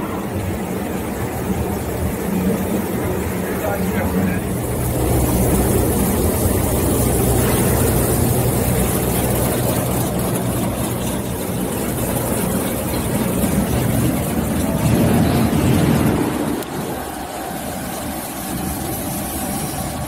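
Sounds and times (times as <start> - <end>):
machine motor hum: 0.0 - 20.0
potatoes turning in machine: 1.2 - 20.0.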